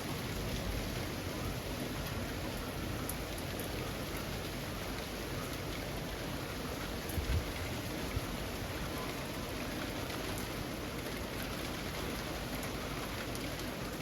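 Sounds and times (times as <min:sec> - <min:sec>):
rain hissing on leaves: 0:00.0 - 0:14.0.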